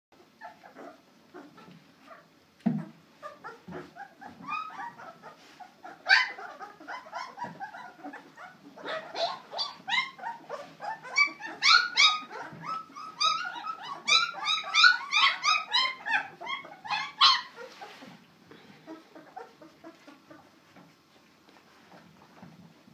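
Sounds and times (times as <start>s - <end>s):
puppies squeaking and whining: 0.2s - 22.8s.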